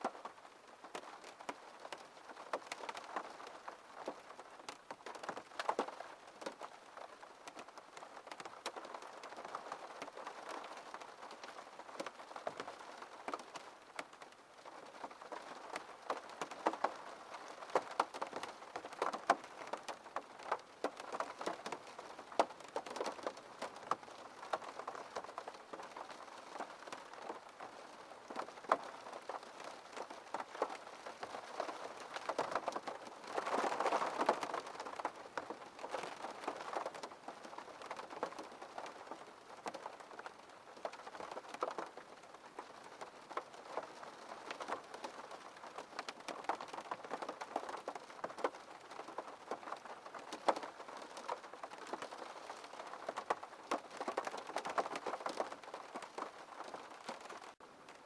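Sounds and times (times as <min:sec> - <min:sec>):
raindrops ticking on glass: 0:00.0 - 0:58.0.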